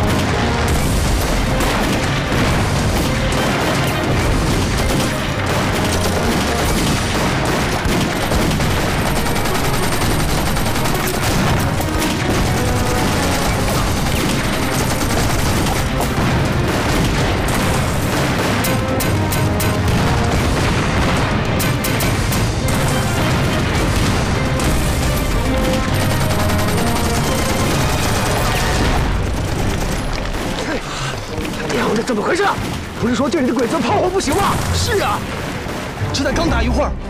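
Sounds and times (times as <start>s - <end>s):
continuous gunfire: 0.0s - 36.6s
booming explosions: 0.0s - 36.7s.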